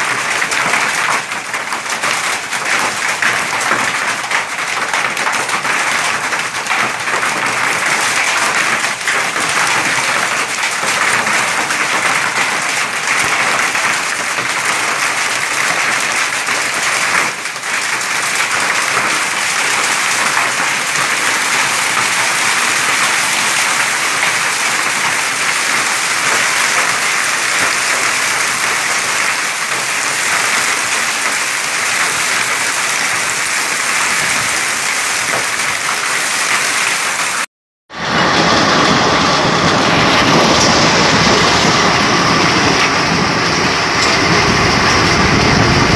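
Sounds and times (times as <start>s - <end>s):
hail clattering on ground: 0.0s - 37.5s, 38.1s - 45.9s.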